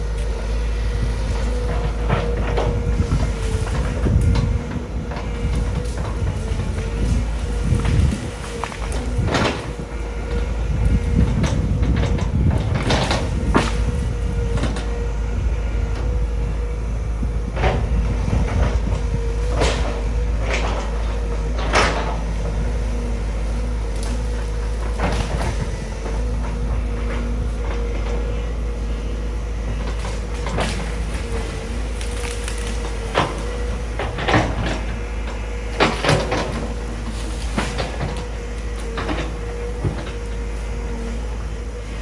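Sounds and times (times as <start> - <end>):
excavator diesel engine running: 0.0 - 42.0
hydraulic whine: 0.0 - 42.0.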